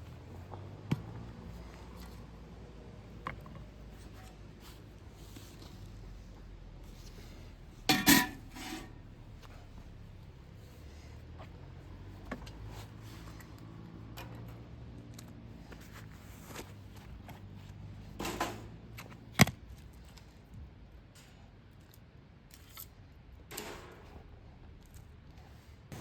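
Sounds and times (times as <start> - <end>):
light clicks and rustles: 0.0 - 26.0.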